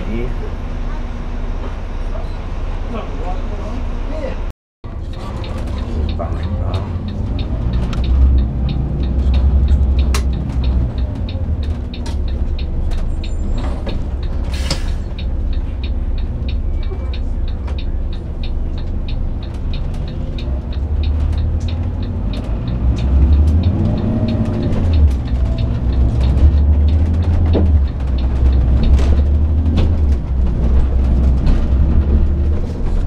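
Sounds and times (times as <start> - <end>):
bus engine rumbling: 0.0 - 33.0
regular ticking: 4.9 - 33.0.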